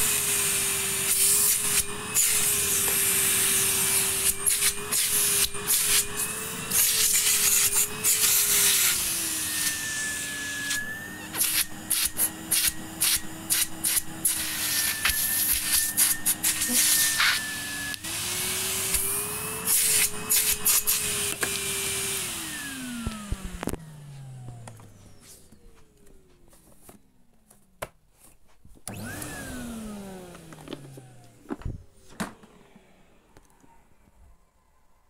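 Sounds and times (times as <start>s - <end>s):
vacuum cleaner motor: 0.0s - 27.0s, 28.8s - 33.7s.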